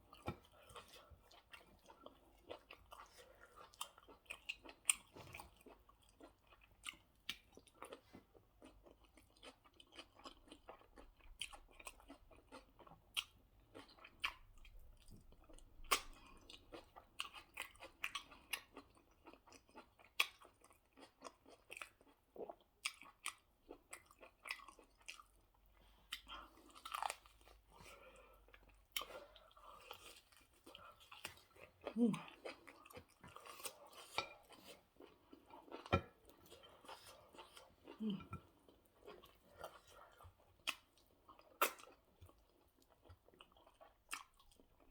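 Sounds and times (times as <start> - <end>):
person chewing and lip smacking: 0.0 - 44.9.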